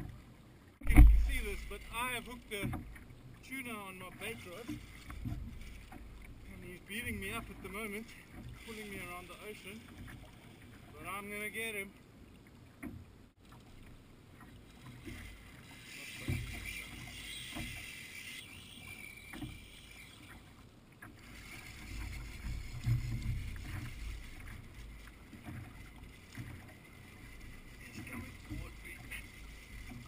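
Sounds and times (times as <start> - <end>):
water slapping kayak hull: 0.0 - 30.0.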